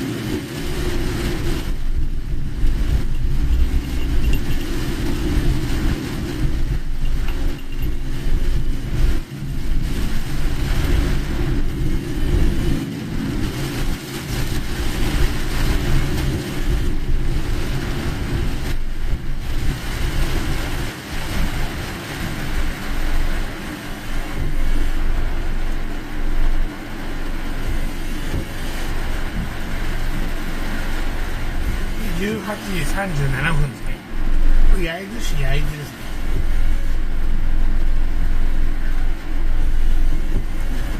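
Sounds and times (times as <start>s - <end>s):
car road and engine noise: 0.0s - 40.9s
heavy rain and tyre spray hiss: 0.0s - 40.9s.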